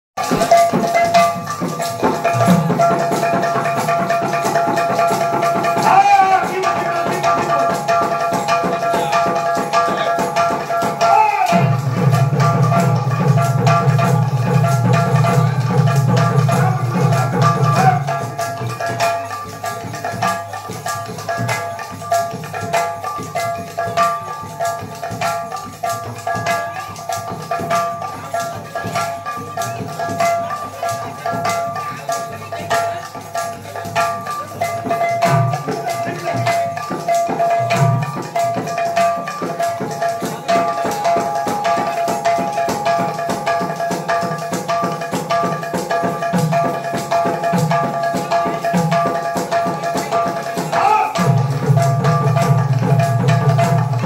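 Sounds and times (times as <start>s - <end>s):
folk devotional music: 0.2s - 54.0s
hand-played barrel drum: 0.2s - 54.0s.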